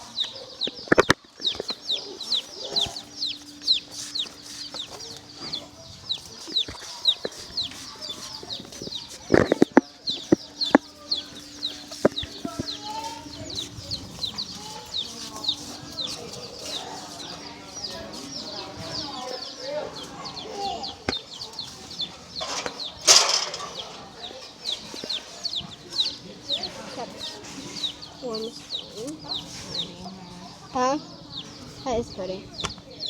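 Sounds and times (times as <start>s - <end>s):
baby chicks peeping: 0.0s - 33.0s.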